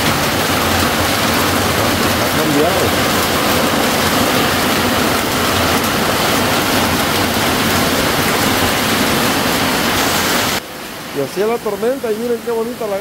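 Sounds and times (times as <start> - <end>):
heavy rain on metal roof: 0.0 - 13.0.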